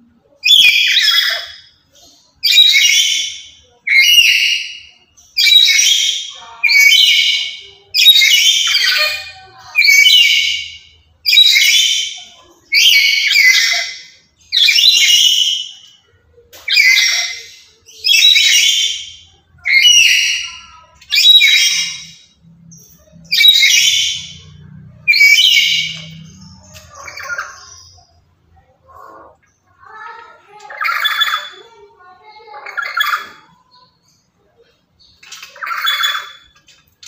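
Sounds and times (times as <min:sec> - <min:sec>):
soft parrot chatter: 0:00.0 - 0:37.0
parrot calling loudly: 0:00.4 - 0:01.6, 0:02.4 - 0:15.9, 0:16.6 - 0:22.4, 0:23.1 - 0:33.6.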